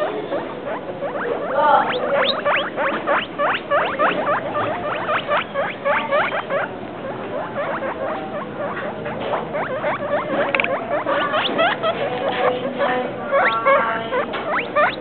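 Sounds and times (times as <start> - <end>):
guinea pig squeaking: 0.0 - 15.0.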